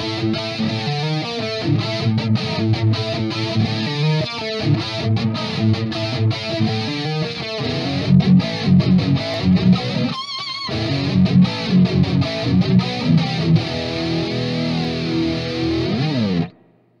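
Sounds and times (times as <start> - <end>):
distorted electric guitar riffing: 0.0 - 16.8.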